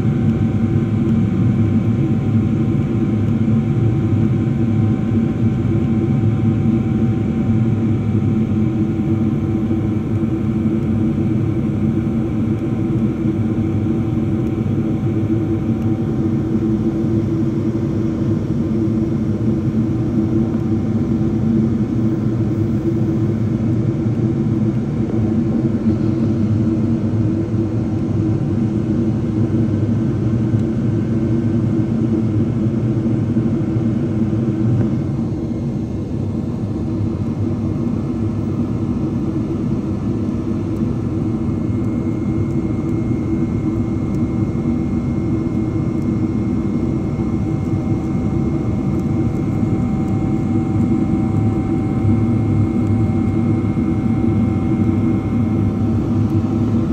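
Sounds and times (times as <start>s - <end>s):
jet engine cabin roar: 0.0s - 56.9s.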